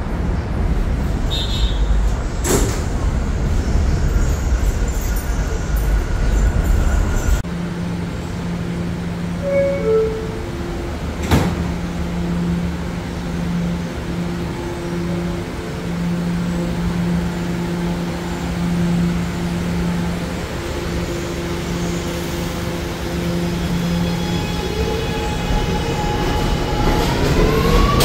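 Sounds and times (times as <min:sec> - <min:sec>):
subway car hum and running noise: 0:00.0 - 0:28.0.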